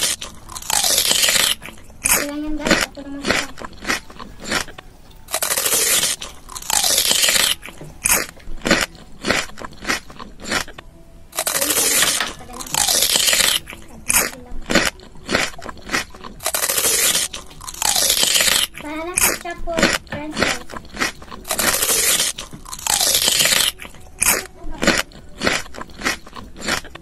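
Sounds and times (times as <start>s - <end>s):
crunchy biting and chewing: 0.0s - 27.0s.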